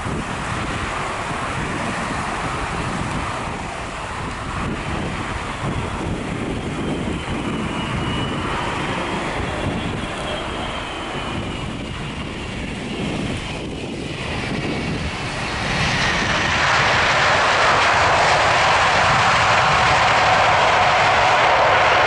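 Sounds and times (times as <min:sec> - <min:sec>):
jet engines of landing airliner: 0:00.0 - 0:22.0.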